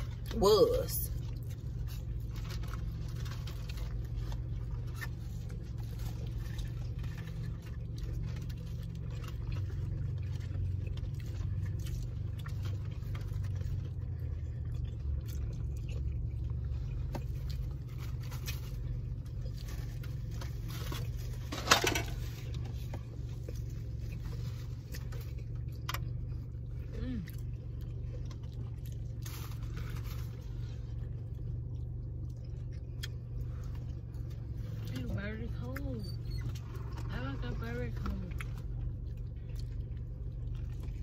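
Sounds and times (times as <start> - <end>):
person chewing a sandwich: 0.0 - 0.4, 1.1 - 35.2, 36.0 - 37.1, 38.3 - 41.0
low hum in car cabin: 0.0 - 41.0.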